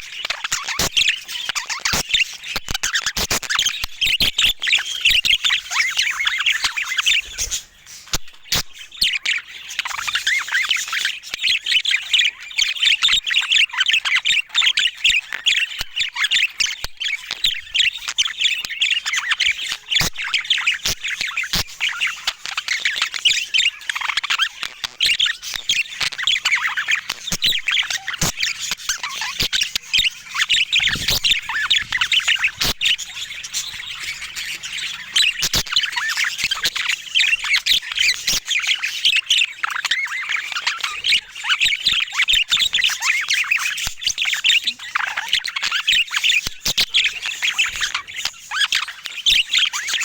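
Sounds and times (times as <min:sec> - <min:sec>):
budgerigar chattering: 0:00.0 - 0:50.0.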